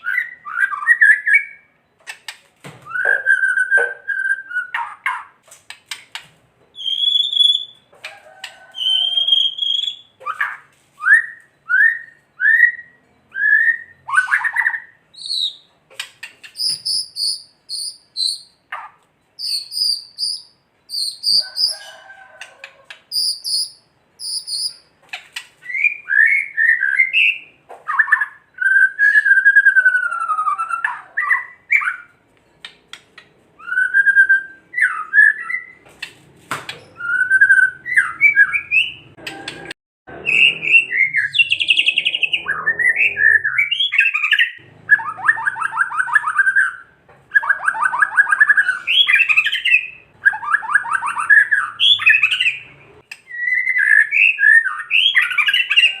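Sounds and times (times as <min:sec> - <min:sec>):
bird whistled song: 0:00.0 - 0:01.8, 0:02.8 - 0:05.3, 0:06.7 - 0:07.9, 0:08.8 - 0:15.7, 0:16.4 - 0:21.9, 0:23.1 - 0:24.9, 0:25.6 - 0:32.2, 0:33.6 - 0:35.8, 0:36.8 - 0:39.4, 0:40.2 - 0:56.0.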